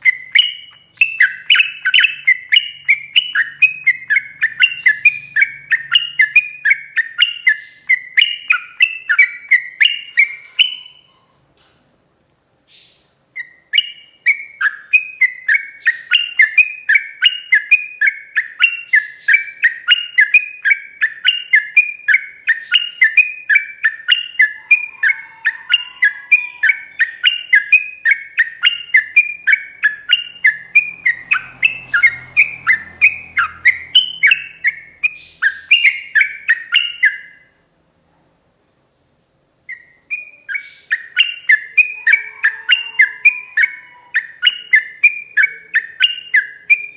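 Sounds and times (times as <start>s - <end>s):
bird singing rapid whistled notes: 0.0s - 11.2s, 12.7s - 37.6s, 39.7s - 46.9s.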